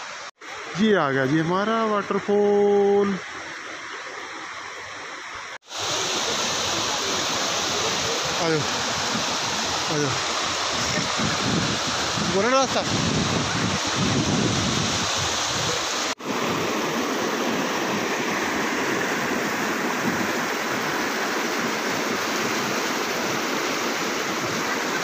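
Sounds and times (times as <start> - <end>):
mountain stream rushing over boulders: 0.0 - 25.0.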